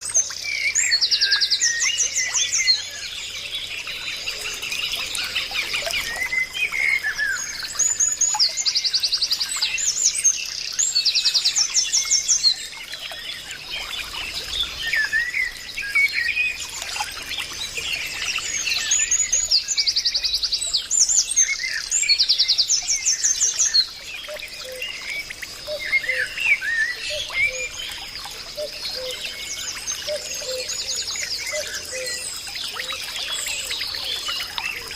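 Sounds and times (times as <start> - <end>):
birds singing and chirping: 0.0 - 34.9.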